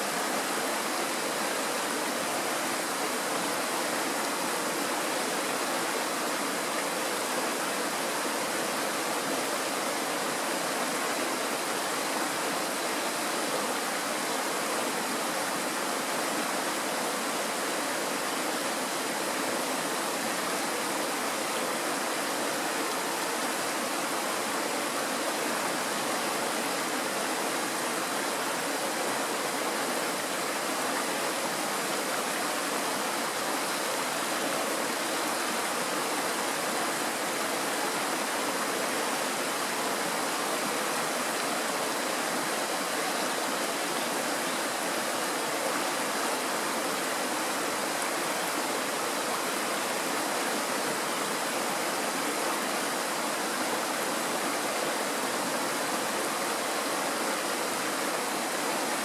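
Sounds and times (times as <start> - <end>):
stream rushing over stones: 0.0 - 59.0.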